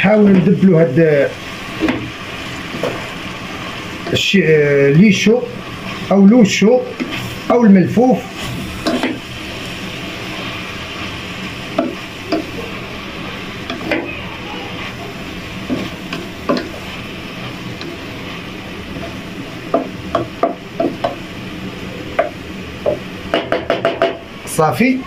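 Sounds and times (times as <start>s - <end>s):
vegetables sizzling in a pot: 0.0s - 25.0s.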